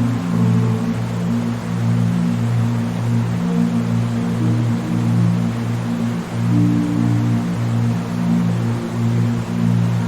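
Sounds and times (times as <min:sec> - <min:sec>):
ambient music with held notes: 0:00.0 - 0:10.0.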